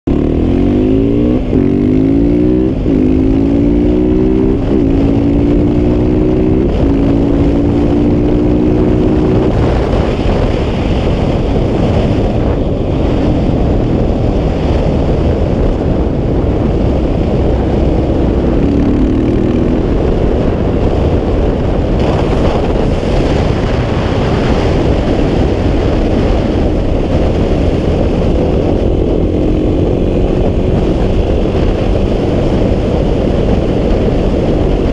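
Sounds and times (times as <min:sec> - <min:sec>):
motorcycle engine accelerating: 0:00.1 - 0:34.9
wind noise on microphone: 0:00.1 - 0:34.9.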